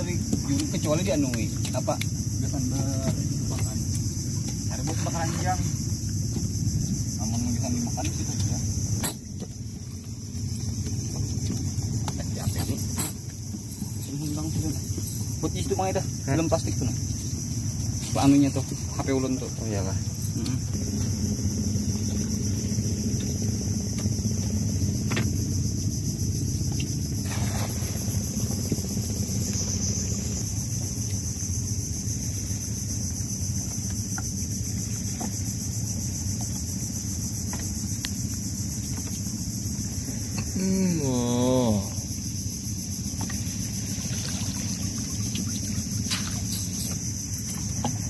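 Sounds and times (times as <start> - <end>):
insects buzzing: 0.0 - 48.0
low steady hum: 0.0 - 48.0.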